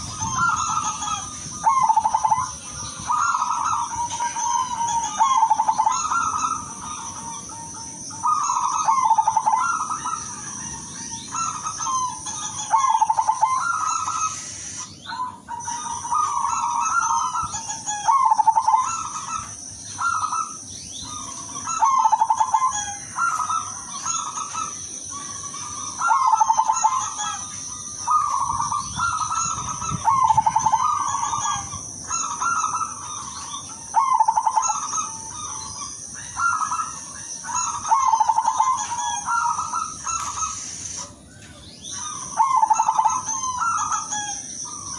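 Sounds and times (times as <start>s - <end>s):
dove cooing: 0.0s - 44.9s.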